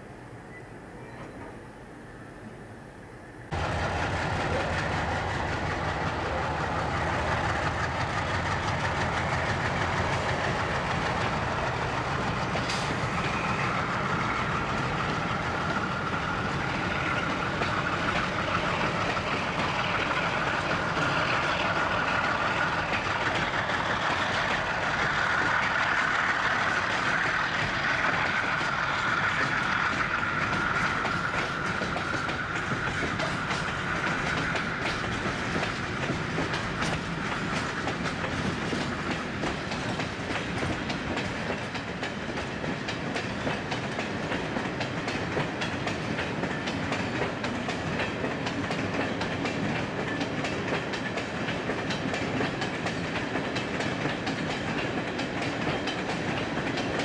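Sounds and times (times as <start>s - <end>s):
freight train wheels clattering: 3.5s - 57.0s.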